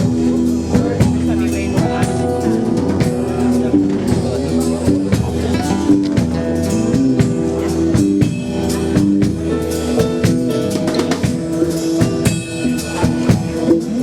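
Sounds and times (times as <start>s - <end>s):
drum kit beat: 0.0s - 14.0s
guitar: 0.0s - 14.0s.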